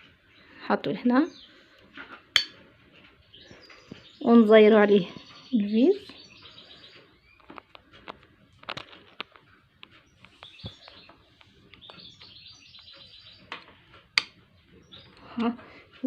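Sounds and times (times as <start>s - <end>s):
bird chirping: 0.0s - 8.4s, 9.5s - 15.8s.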